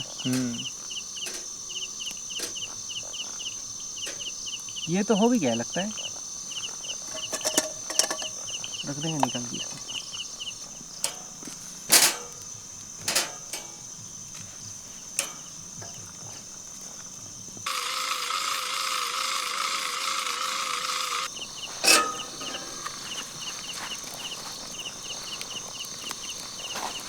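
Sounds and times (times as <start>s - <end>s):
insects buzzing and chirping: 0.0s - 27.0s.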